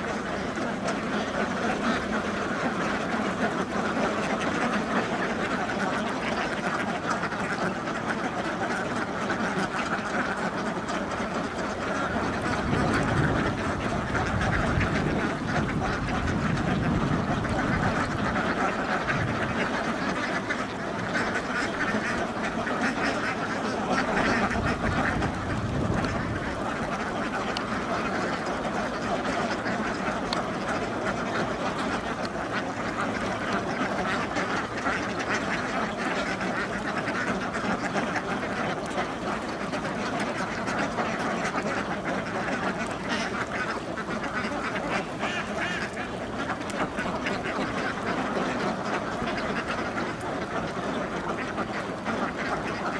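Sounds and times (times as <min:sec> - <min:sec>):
flock of ducks quacking: 0:00.0 - 0:52.9.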